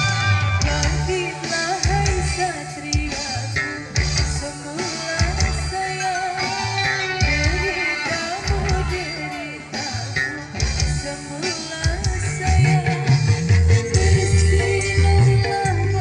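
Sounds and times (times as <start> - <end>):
loud drums with bass hits: 0.0 - 5.9, 7.2 - 9.1, 9.9 - 16.0
electric guitar: 0.0 - 16.0.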